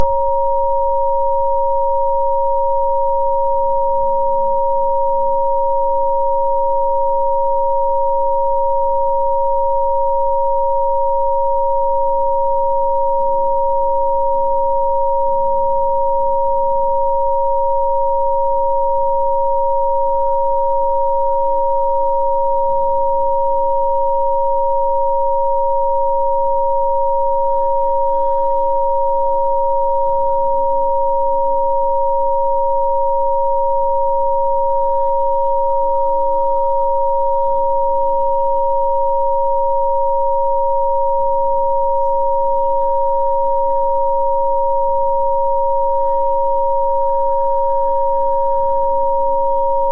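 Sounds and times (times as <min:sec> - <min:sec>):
steady sine tones: 0:00.0 - 0:49.9.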